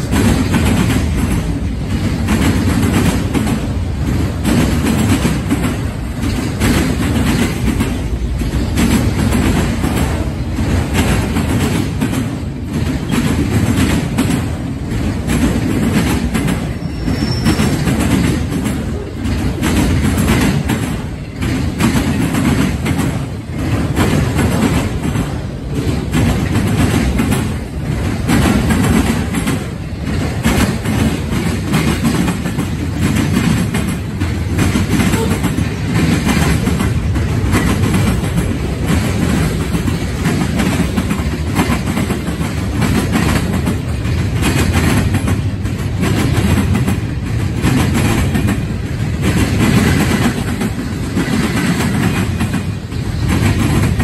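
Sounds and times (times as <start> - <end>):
freight train wheels clattering on rails: 0.0 - 54.0.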